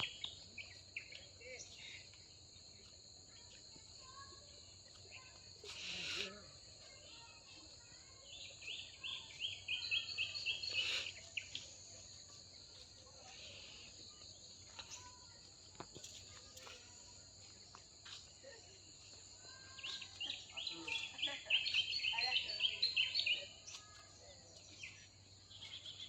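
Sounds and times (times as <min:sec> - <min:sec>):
dawn chorus birdsong: 0:00.0 - 0:15.4, 0:19.4 - 0:26.0
insects trilling: 0:00.0 - 0:26.0.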